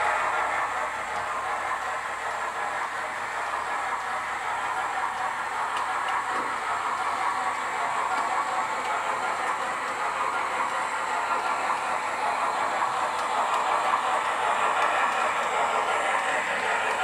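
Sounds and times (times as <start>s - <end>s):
model train motor and wheels: 0.0s - 17.0s
steam locomotive sounds from speaker: 0.0s - 17.0s.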